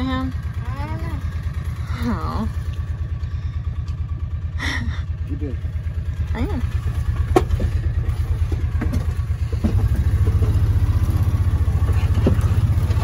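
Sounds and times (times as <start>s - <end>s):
engine low throb: 0.0s - 13.0s.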